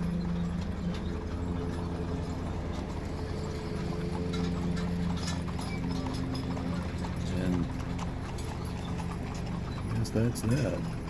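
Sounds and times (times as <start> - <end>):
low hum: 0.0 - 9.9
hooves clip-clopping: 0.0 - 11.0.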